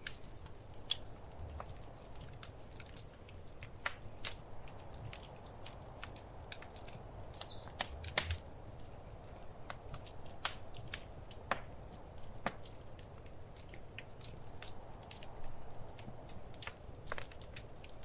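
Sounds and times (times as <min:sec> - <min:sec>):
soft steady hiss: 0:00.0 - 0:18.0
wood fire crackling: 0:00.0 - 0:18.0.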